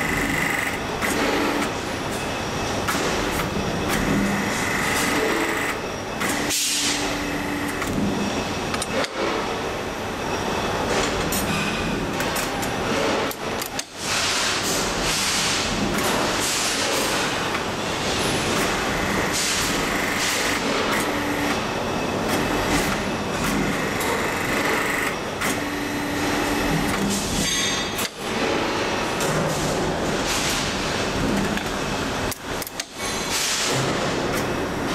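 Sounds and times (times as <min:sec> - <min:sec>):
metalworking press machinery running: 0:00.0 - 0:34.9.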